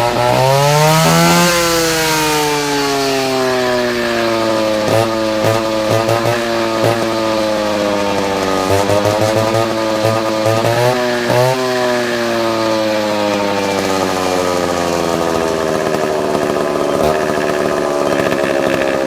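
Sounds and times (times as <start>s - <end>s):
concrete cutting saw running: 0.0s - 19.0s.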